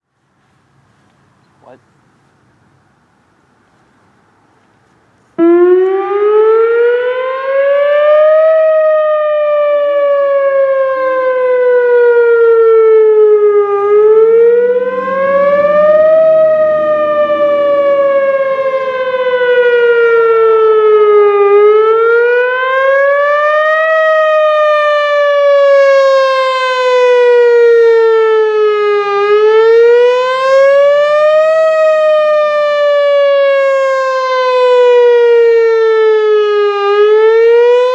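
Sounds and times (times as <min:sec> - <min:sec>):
warning siren wailing: 0:05.4 - 0:37.9.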